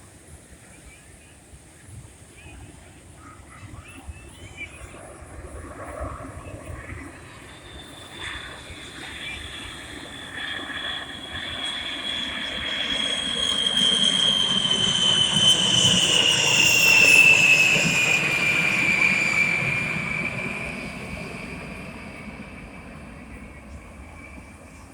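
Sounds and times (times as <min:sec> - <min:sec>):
jet bomber passing by: 0:04.7 - 0:24.9.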